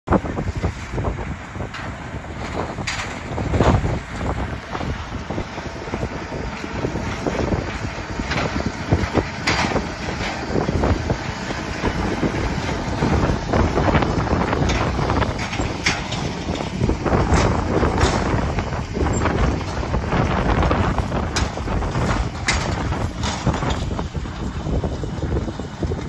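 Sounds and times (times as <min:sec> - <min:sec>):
tractor engine under load: 0:00.1 - 0:26.0
wind buffeting microphone: 0:00.1 - 0:26.0
baler machinery knocking and rattling: 0:01.0 - 0:26.0.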